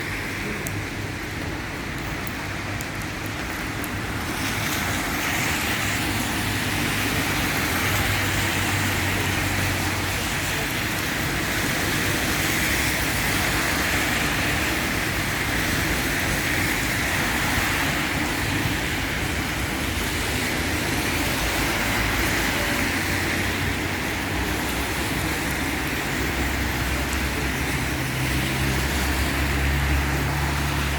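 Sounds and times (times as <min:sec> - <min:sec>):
road traffic hiss: 0:00.0 - 0:30.9.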